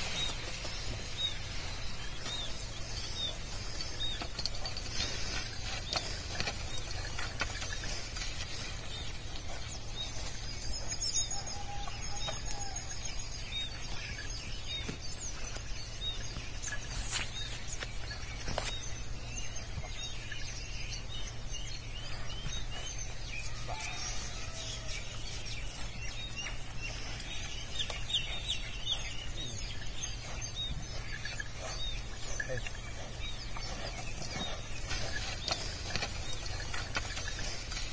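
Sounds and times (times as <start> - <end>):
steady low rumble: 0.0 - 24.4, 25.0 - 37.9
small birds chirping: 0.0 - 37.9.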